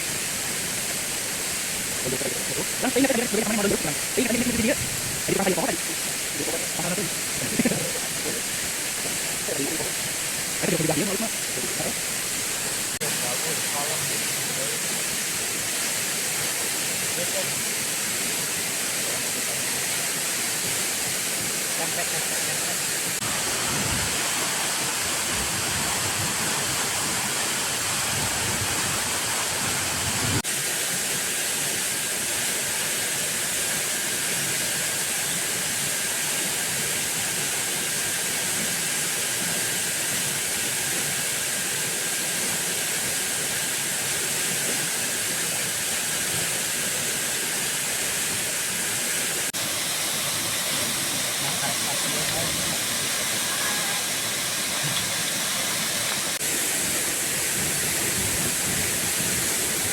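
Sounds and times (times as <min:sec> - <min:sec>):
waterfall and rain rushing: 0:00.0 - 0:59.9.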